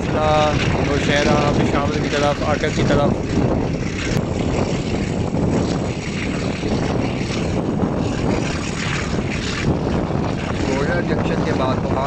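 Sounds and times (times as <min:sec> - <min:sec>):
rushing air: 0:00.0 - 0:12.0.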